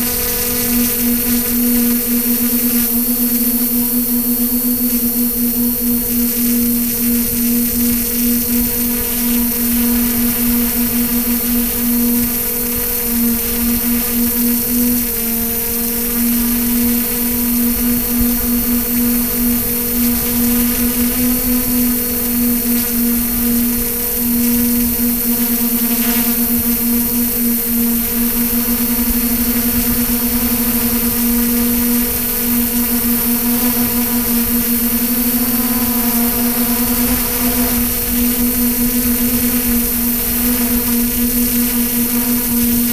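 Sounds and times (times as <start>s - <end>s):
drone motors buzzing hum: 0.0s - 42.9s.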